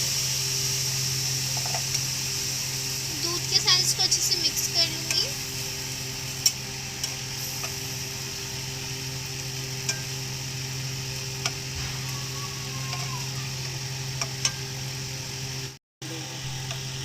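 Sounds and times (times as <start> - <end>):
low hum: 0.0 - 17.0
sizzling: 0.0 - 17.0.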